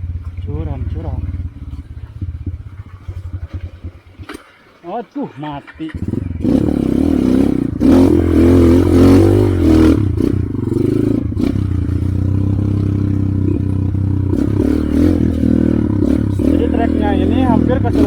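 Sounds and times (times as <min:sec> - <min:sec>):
motorcycle engine starting and revving: 0:00.0 - 0:05.0, 0:05.6 - 0:18.0.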